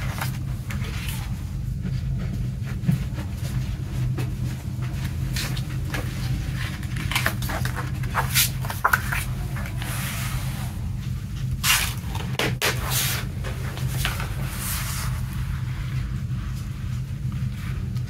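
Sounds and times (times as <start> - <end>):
paper rustling: 0.0 - 18.0
steady low hum: 0.0 - 18.0.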